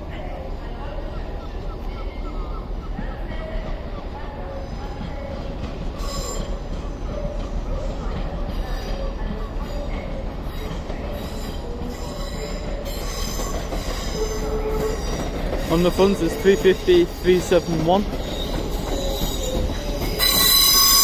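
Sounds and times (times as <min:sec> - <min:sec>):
electric train rumbling: 0:00.0 - 0:21.0
train wheels squealing: 0:01.2 - 0:21.0.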